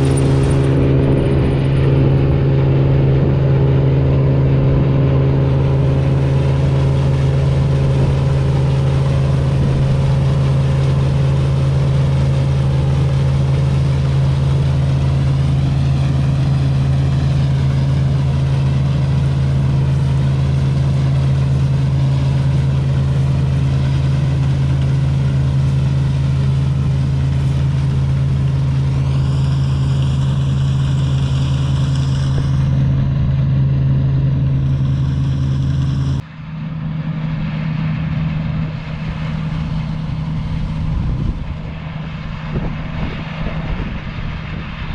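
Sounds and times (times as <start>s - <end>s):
combine harvester diesel engine: 0.0s - 44.9s
high whine rising in pitch: 0.0s - 44.9s.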